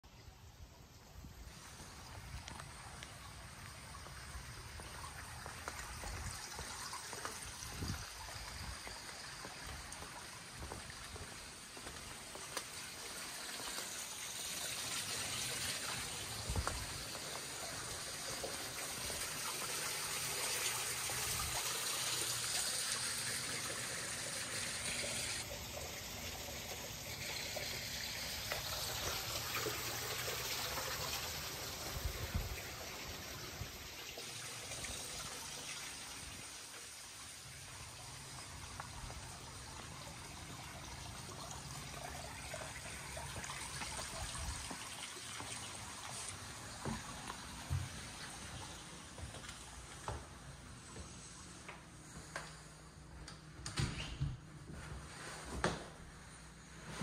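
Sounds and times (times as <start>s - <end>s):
fountain water trickling: 0.2s - 50.0s.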